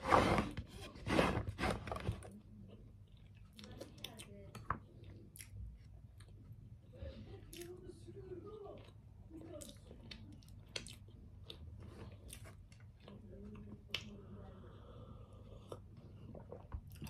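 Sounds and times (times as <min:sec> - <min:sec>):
chewing bread: 0:02.2 - 0:17.0.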